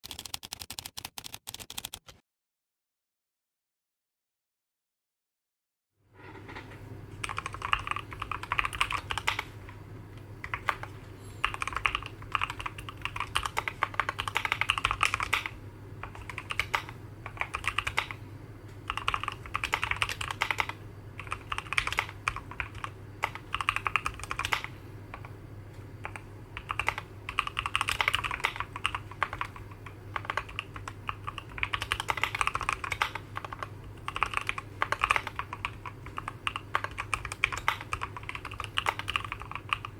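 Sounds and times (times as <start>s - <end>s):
mechanical keyboard typing: 0.0s - 2.2s, 7.2s - 9.5s, 10.4s - 18.2s, 18.9s - 25.3s, 26.0s - 39.9s.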